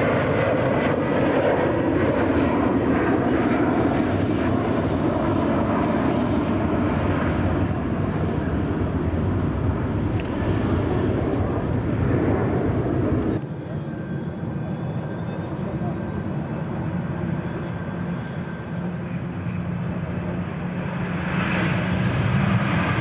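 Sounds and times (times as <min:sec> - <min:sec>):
jet engine rumble: 0:00.0 - 0:23.0.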